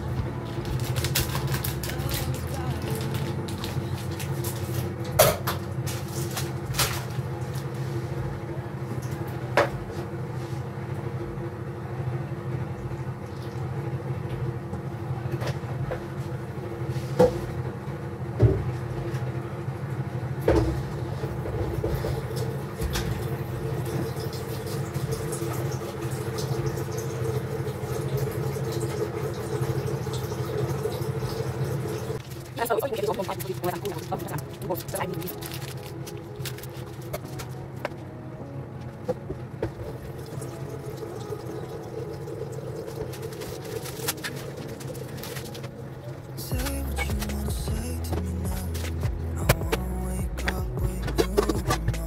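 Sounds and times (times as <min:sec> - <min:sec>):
droning hum: 0:00.0 - 0:52.0.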